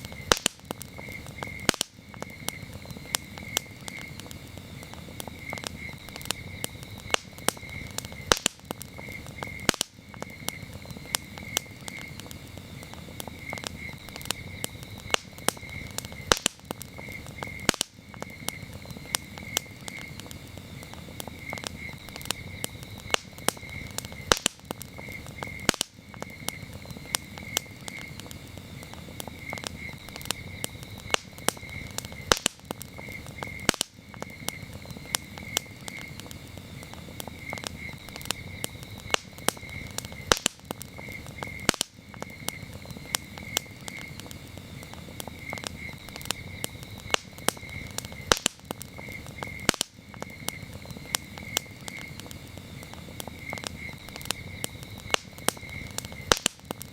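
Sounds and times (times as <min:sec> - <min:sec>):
campfire crackling and popping: 0:00.0 - 0:56.9
crickets chirping: 0:00.0 - 0:56.9.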